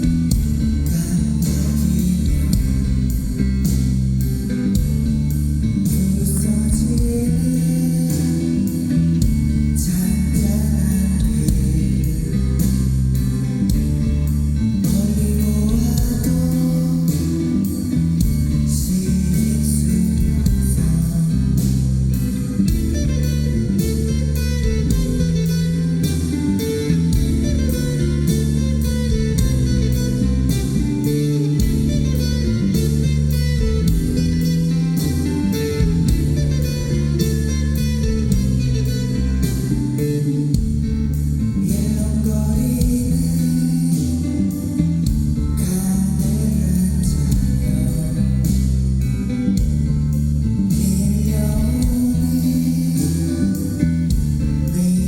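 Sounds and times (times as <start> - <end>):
bass: 0.0 - 55.0
drum kit beat on cymbals: 0.0 - 55.0
guitar: 0.0 - 55.0.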